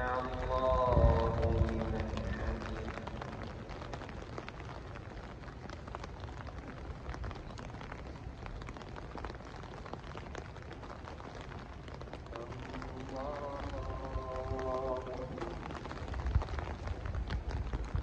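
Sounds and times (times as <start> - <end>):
heavy rain on umbrellas: 0.0 - 18.0.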